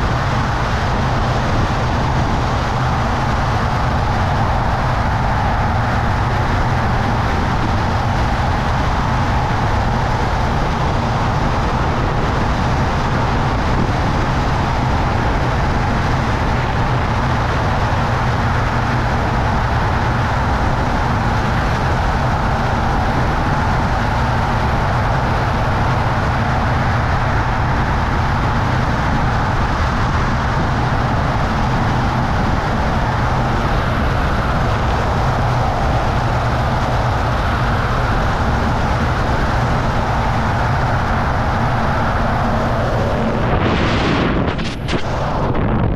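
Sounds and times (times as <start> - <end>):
loud wind rush on microphone: 0.0 - 45.9.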